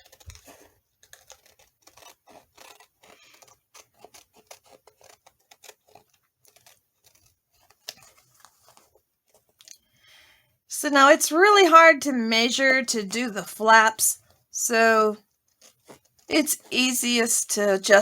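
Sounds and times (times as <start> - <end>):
scissors cutting paper: 0.0 - 9.7, 12.7 - 18.0.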